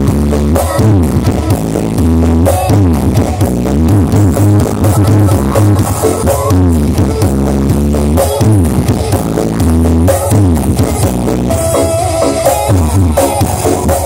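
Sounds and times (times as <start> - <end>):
loud electronic dance music: 0.0 - 14.0.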